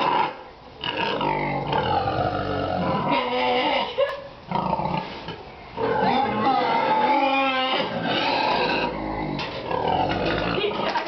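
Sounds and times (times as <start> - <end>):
pigs making drawn-out calls: 0.0 - 11.0.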